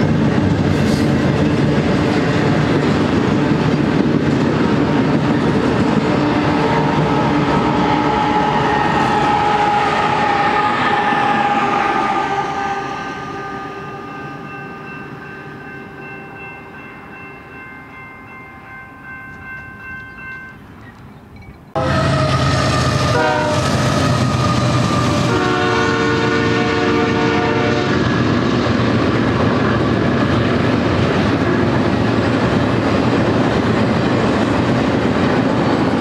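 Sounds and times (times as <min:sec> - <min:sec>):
freight train rumbling and rattling: 0:00.0 - 0:36.0.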